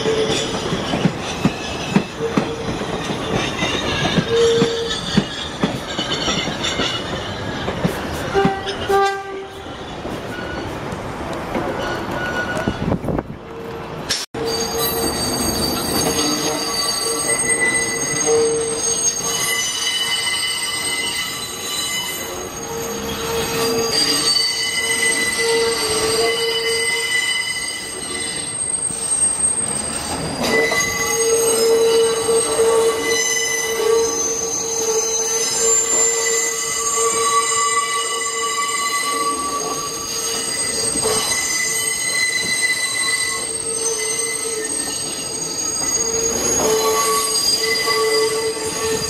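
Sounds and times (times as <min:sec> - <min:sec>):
train wheels squealing on track: 0:00.0 - 0:13.2, 0:14.1 - 0:49.0
rumble of moving train cars: 0:00.0 - 0:49.0.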